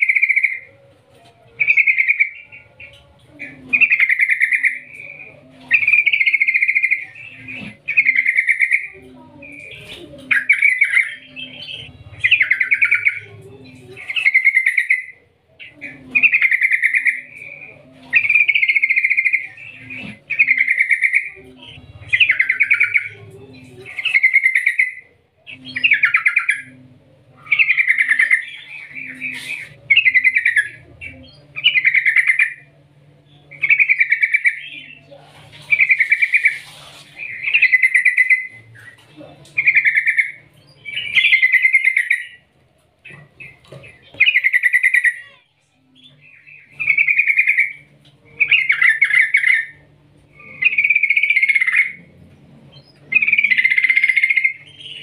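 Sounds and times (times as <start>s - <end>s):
bulbul singing trilled phrases: 0.0s - 55.0s.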